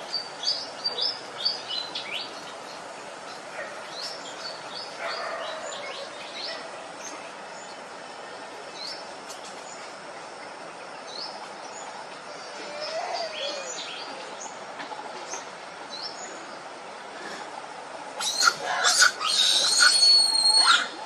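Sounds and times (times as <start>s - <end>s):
birds chirping: 0.0s - 21.0s
forest background hiss: 0.0s - 21.0s.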